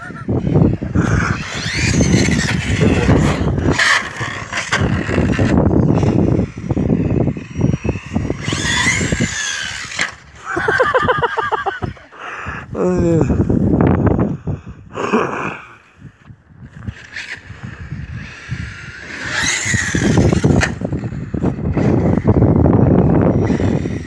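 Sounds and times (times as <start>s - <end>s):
electric motor whining: 0.0s - 12.1s, 16.6s - 24.0s.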